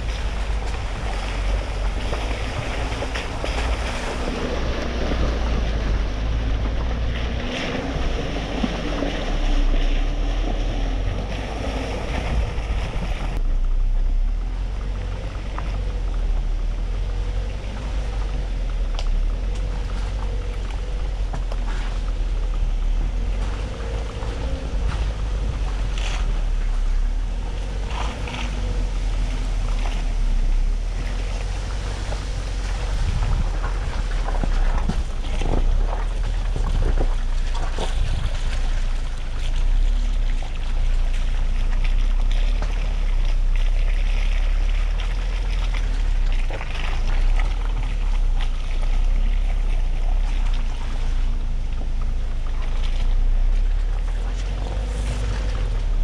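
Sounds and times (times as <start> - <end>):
truck engine rumble: 0.0 - 56.0
wind buffeting microphone: 0.0 - 56.0.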